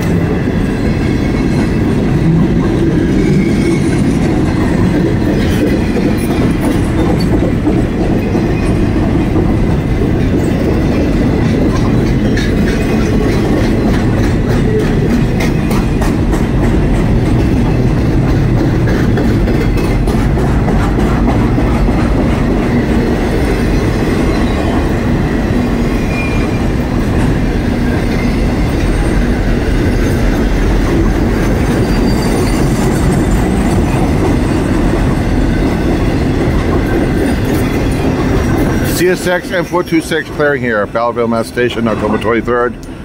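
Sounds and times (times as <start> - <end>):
freight train rumbling: 0.0 - 43.0
wheels clacking over rail joints: 0.0 - 43.0.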